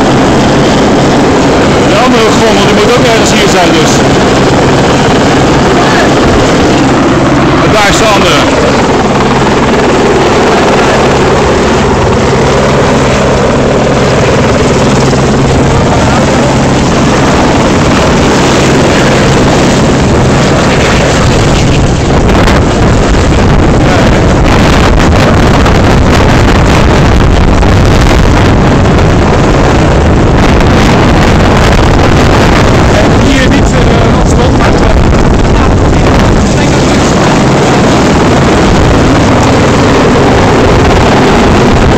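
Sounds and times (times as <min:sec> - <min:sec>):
helicopter rotor and engine drone: 0:00.0 - 0:41.9
wind buffeting microphone: 0:00.0 - 0:41.9.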